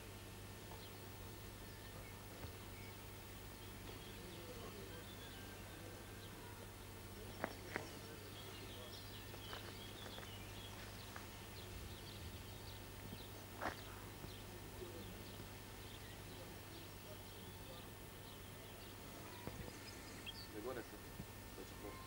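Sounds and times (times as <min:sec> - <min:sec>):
birds chirping faintly: 0:00.0 - 0:22.0
steady low hum: 0:00.0 - 0:22.0.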